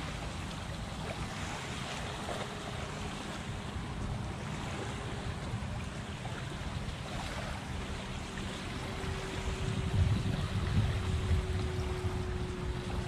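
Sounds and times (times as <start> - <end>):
small waves lapping on shore: 0.0 - 13.0
wind rumbling on microphone: 0.0 - 13.0.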